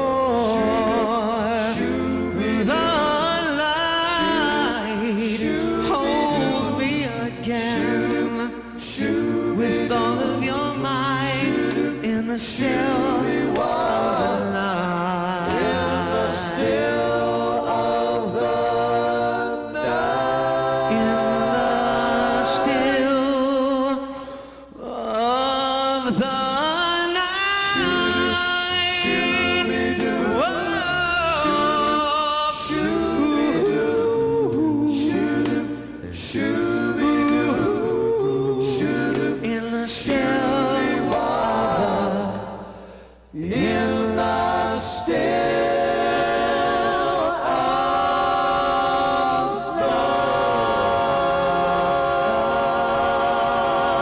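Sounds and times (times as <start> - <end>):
male vocal group singing a cappella: 0.0 - 54.0.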